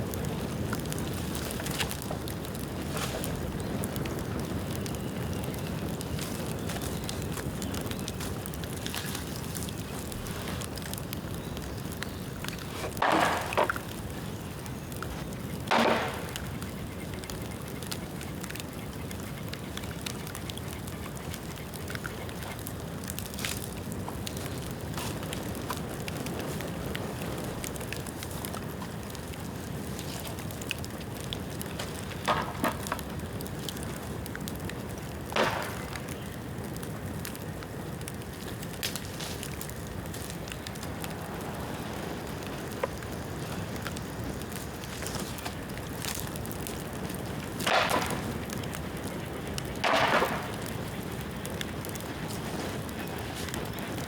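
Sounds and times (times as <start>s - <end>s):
bamboo bursting: 0.0s - 18.2s, 22.7s - 54.0s
bamboo fire crackling: 0.0s - 54.0s.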